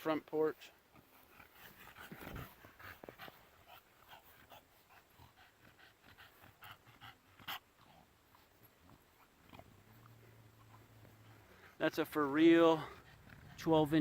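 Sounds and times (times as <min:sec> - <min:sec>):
dog panting: 0:00.5 - 0:14.0.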